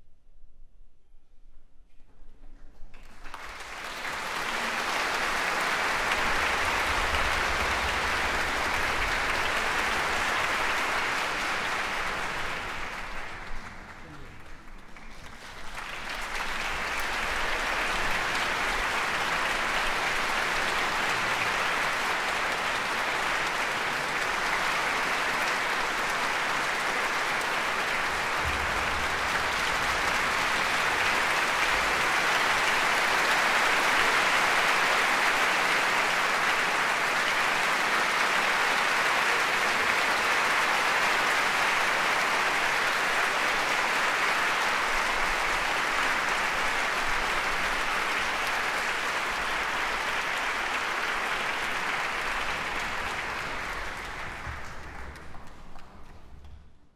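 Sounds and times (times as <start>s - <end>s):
large audience applauding: 2.9s - 56.5s.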